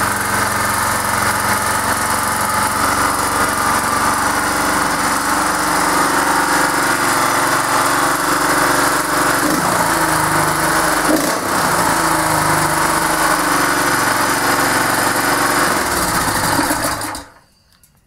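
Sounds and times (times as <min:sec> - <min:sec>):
petrol engine running: 0:00.0 - 0:18.0.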